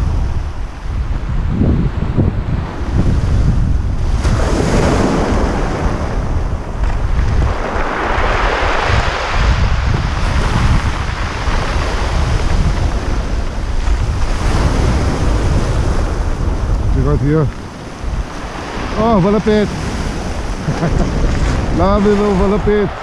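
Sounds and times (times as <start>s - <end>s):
surf breaking on shore: 0.0s - 23.0s
wind buffeting microphone: 0.0s - 23.0s.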